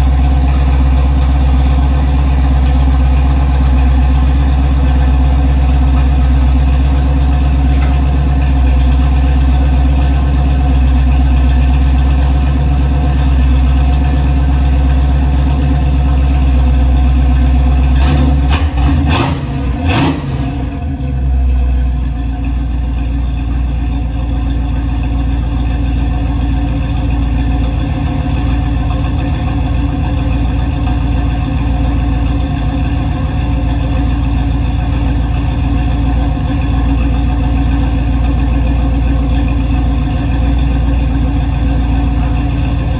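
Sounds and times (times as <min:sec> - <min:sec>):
engine idling: 0:00.0 - 0:42.9
engine knocks: 0:00.0 - 0:42.9.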